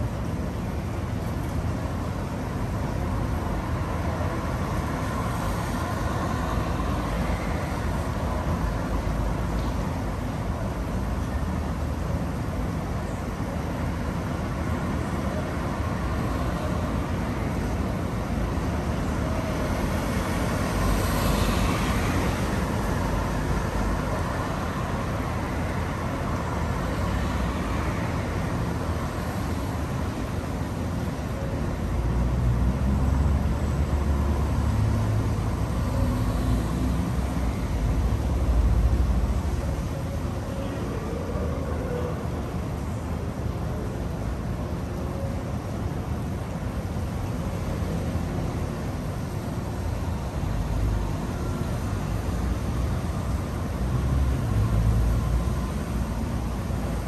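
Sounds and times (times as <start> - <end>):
cars and buses passing: 0.0 - 57.0.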